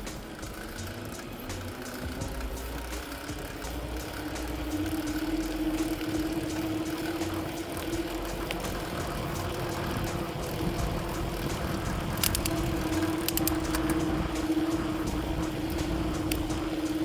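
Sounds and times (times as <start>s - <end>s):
vehicle engine humming: 0.0s - 17.0s
wind and road noise: 0.0s - 17.0s.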